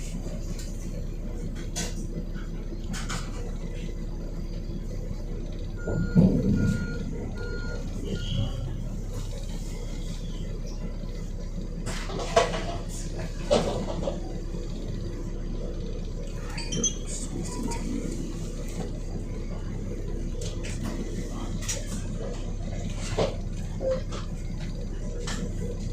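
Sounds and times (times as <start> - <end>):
diesel bus engine idling: 0.0 - 25.9.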